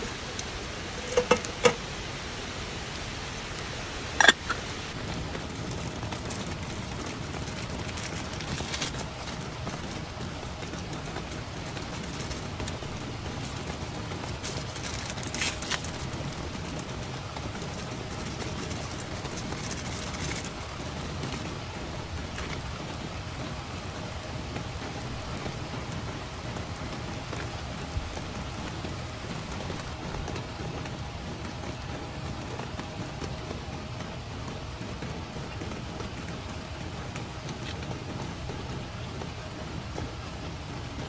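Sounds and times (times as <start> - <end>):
rain falling on a tent: 0.0 - 41.0.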